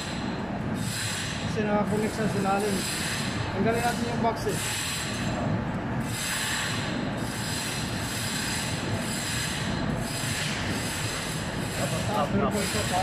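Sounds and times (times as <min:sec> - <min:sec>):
air conditioning machinery humming: 0:00.0 - 0:13.0.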